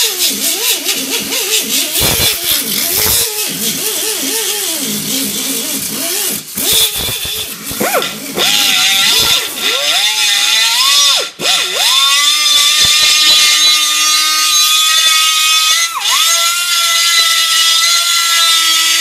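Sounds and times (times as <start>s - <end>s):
die grinder whining: 0.0s - 19.0s.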